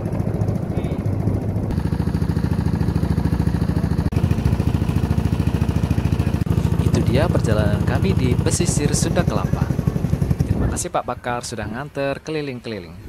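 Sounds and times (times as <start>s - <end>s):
boat engine chugging: 0.0s - 11.9s.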